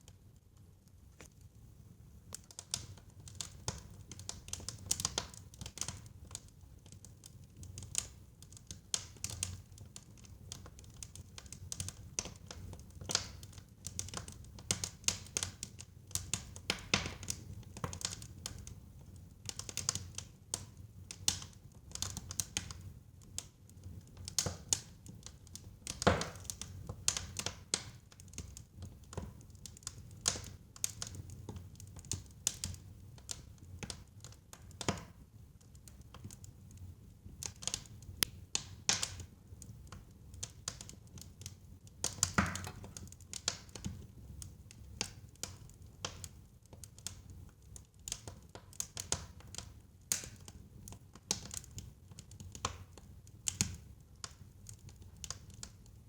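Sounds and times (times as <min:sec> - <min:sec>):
wood fire crackling and popping: 0:00.1 - 0:56.0.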